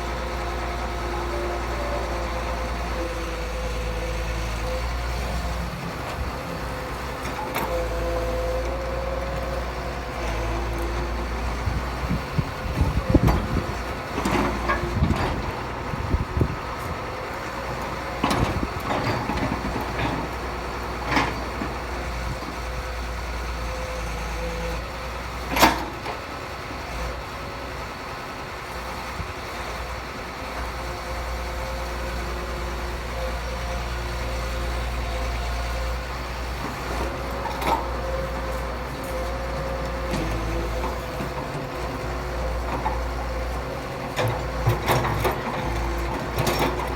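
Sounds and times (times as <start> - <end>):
diesel machinery droning: 0.0 - 46.9.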